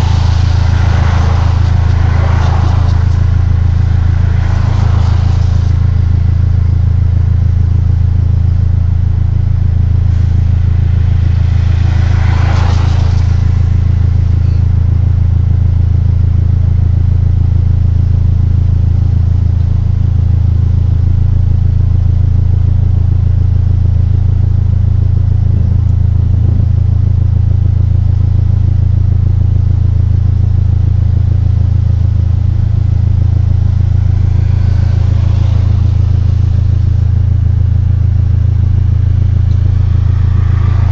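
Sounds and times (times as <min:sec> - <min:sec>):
car engine droning: 0:00.0 - 0:40.9.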